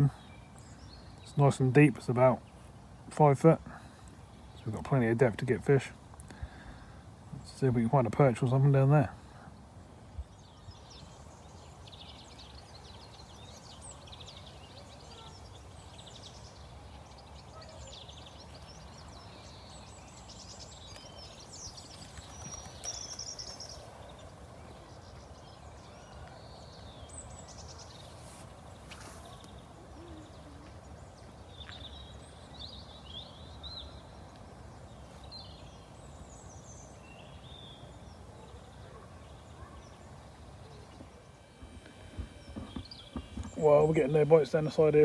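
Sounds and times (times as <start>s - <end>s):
birds chirping: 0.0s - 45.0s
faint outdoor hum: 0.0s - 45.0s.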